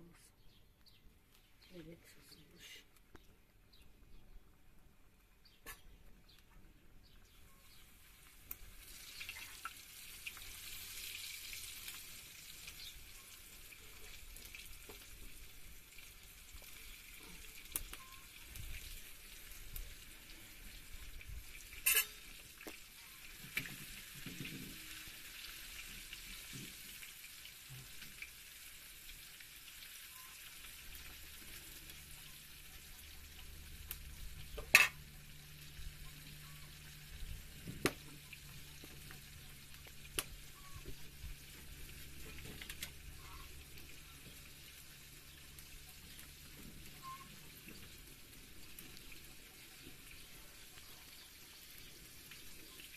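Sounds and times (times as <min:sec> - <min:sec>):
liver frying in hot oil: 0:07.2 - 0:52.9.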